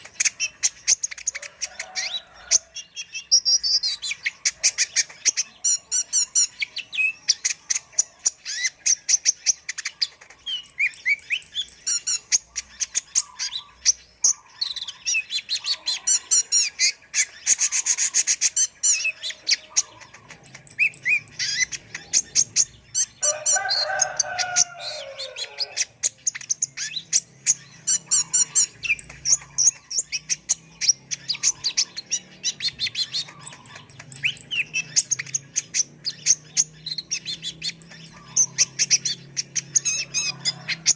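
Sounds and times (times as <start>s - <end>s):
sunbird chirps and trills: 0.0s - 40.9s.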